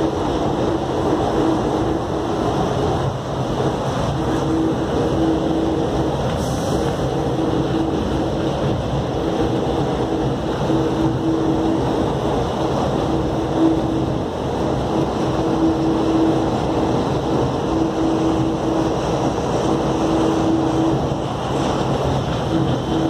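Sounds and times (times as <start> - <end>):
humming tone: 0.0 - 23.0
train cabin rumble: 0.0 - 23.0.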